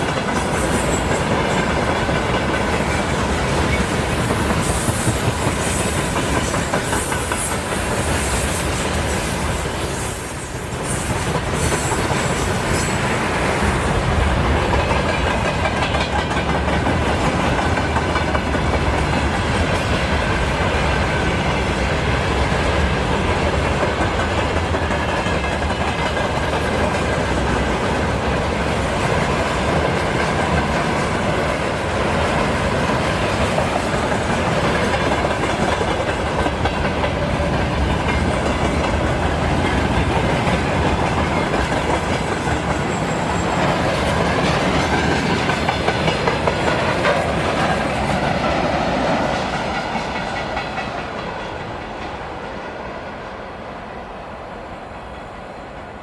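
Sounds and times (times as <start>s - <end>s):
train wheels clattering over rail joints: 0.0s - 52.5s.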